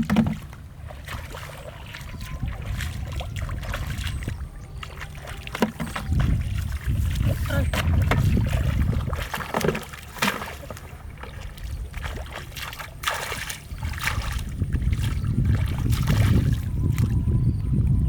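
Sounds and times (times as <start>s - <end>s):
steady low rumble: 0.0s - 9.4s, 10.6s - 18.0s
water sloshing and splashing: 0.0s - 18.0s.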